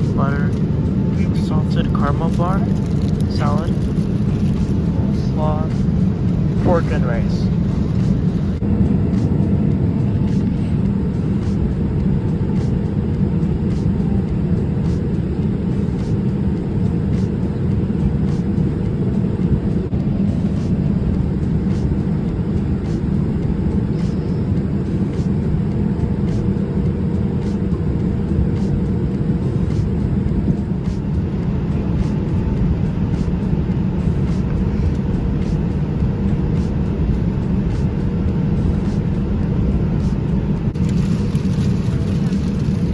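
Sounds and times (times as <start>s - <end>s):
airliner cabin engine rumble: 0.0s - 42.9s
faint steady hum: 0.0s - 42.9s.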